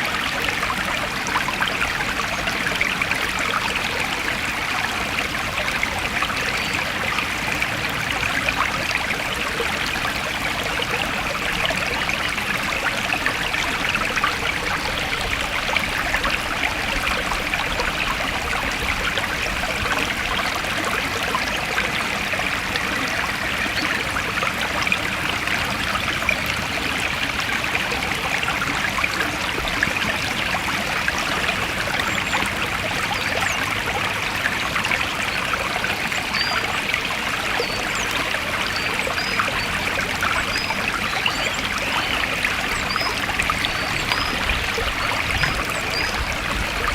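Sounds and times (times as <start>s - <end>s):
stream water over stones: 0.0s - 46.9s.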